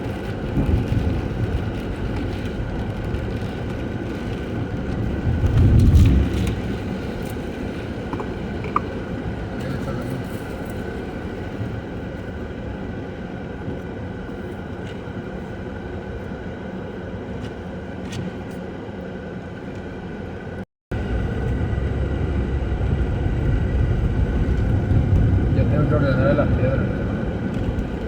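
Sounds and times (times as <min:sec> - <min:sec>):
engine running: 0:00.0 - 0:28.0
road rumble: 0:00.0 - 0:28.0.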